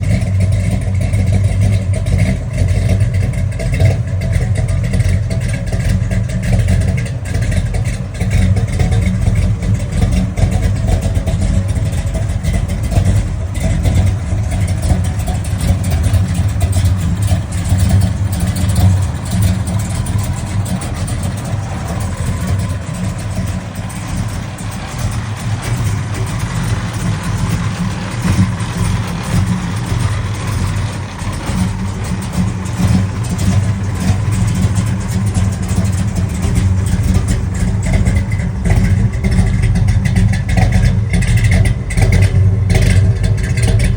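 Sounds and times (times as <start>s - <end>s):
car engine misfiring: 0.0s - 43.9s.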